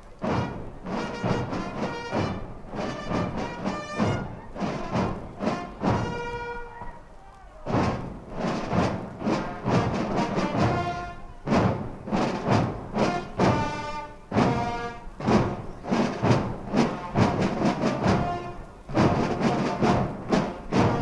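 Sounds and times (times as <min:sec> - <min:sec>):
brass band playing march: 0:00.1 - 0:21.0.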